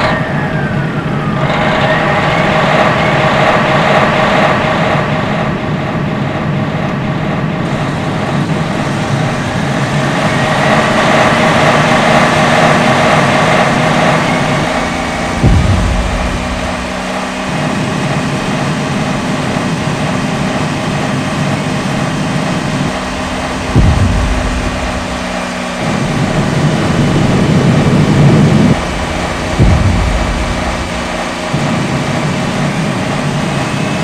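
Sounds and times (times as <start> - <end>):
fire jet rushing rumble: 0.0 - 34.0
heavy low rumbling: 0.0 - 34.0
low engine-like hum: 0.0 - 34.0.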